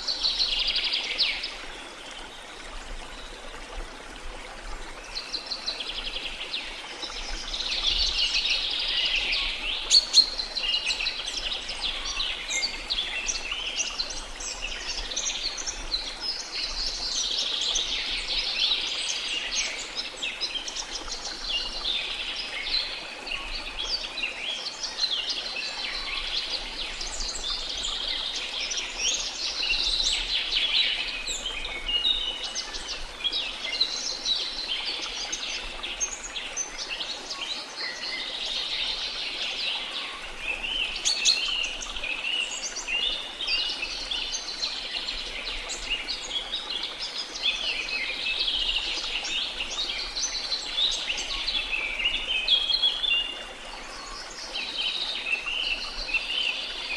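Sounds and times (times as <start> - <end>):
rush of falling water: 0.0 - 56.9.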